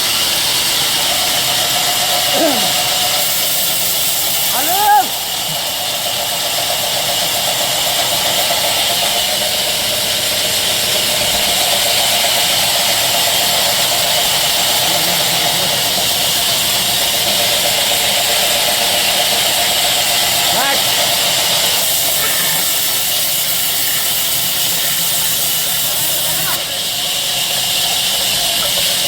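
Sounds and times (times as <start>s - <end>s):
small motor hissing: 0.0s - 29.0s.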